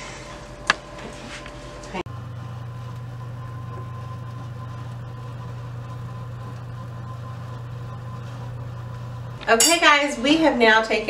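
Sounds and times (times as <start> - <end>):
oven humming: 0.0 - 11.0.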